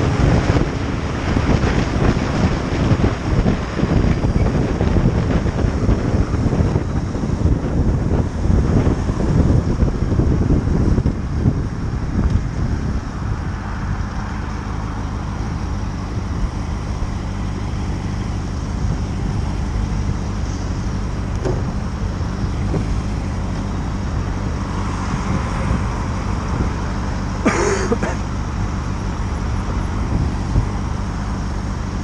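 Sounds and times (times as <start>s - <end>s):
road and wind noise: 0.0s - 32.0s.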